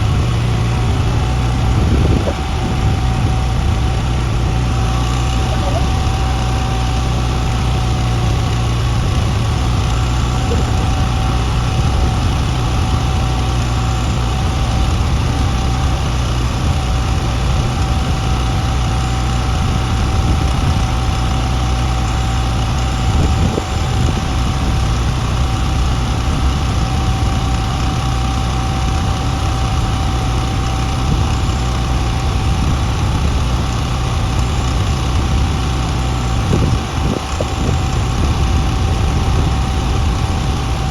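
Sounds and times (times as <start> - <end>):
heavy equipment engine idling: 0.0 - 40.9
thin steady whine: 0.0 - 40.9.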